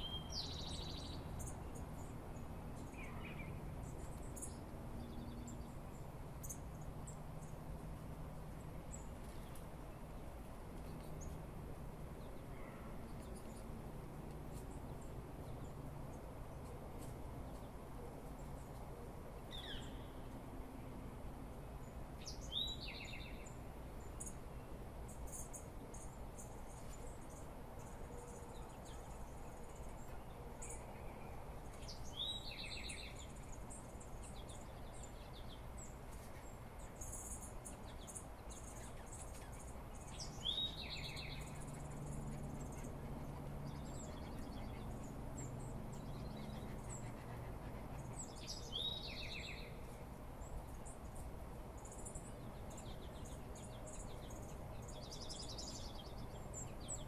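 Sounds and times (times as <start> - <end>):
birds chipping: 0.0 - 57.0.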